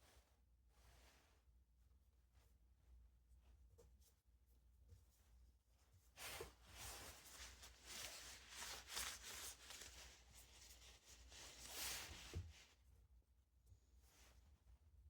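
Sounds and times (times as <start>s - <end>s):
faint rubbing and wiping: 0.0s - 13.1s.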